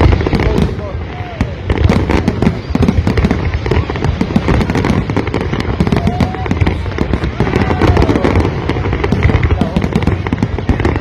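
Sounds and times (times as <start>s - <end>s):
deep fireworks booming: 0.0s - 11.0s
fireworks bangs and crackles: 0.0s - 11.0s.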